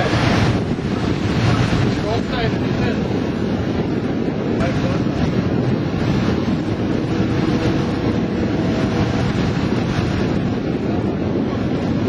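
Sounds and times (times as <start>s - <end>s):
waves washing: 0.0s - 12.0s
wind buffeting microphone: 0.0s - 12.0s.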